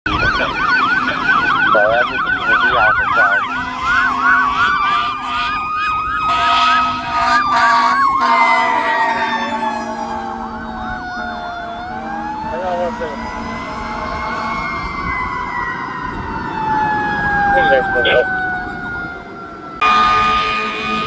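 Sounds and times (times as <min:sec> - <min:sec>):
electronic siren yelping: 0:00.1 - 0:21.0
mechanical siren wailing: 0:00.1 - 0:21.0.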